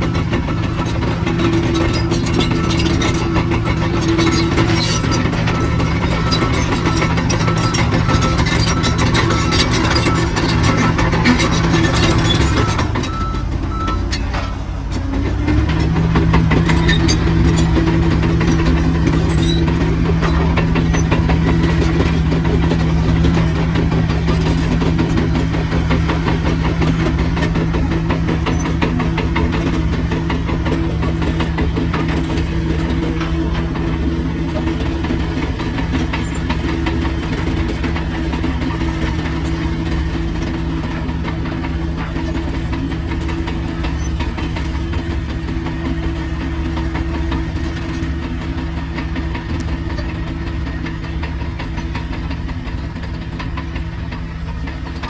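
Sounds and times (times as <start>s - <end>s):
construction machine diesel engine: 0.0s - 55.0s.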